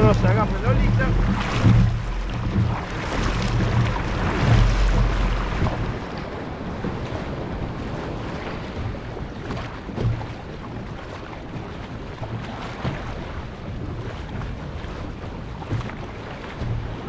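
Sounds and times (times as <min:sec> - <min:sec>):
water rushing and splashing: 0:00.0 - 0:17.0
wind buffeting microphone: 0:00.0 - 0:17.0.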